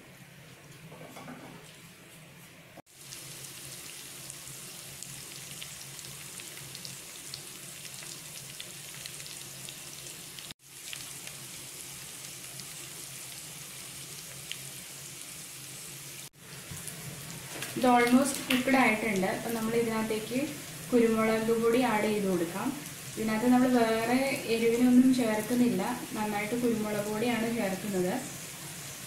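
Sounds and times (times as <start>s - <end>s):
food sizzling in wok: 1.4s - 29.0s.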